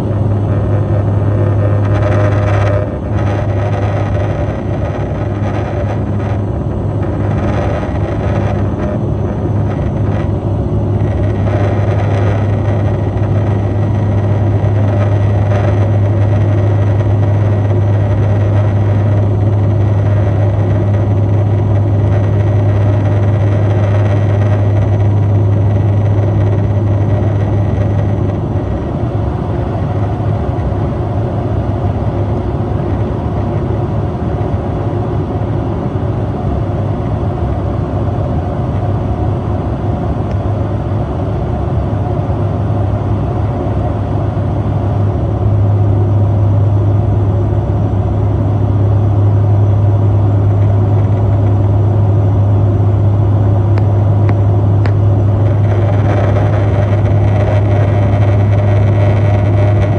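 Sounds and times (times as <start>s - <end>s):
propeller aircraft cabin drone: 0.0s - 59.9s.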